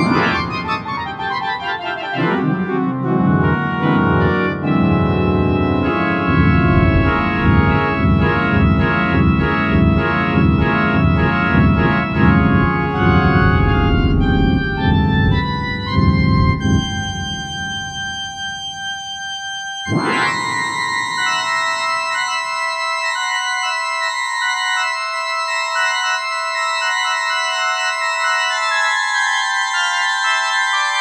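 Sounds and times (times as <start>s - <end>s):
organ music with pulsing bass: 0.0s - 31.0s.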